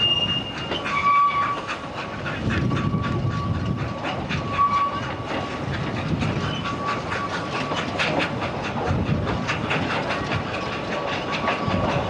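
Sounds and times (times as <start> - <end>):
train carriages rumbling: 0.0 - 12.0
wheels clicking over rail joints: 0.0 - 12.0.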